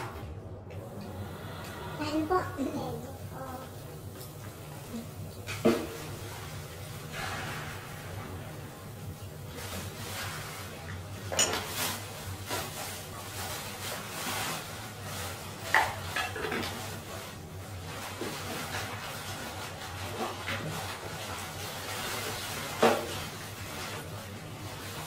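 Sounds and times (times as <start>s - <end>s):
low steady hum: 0.0s - 22.6s.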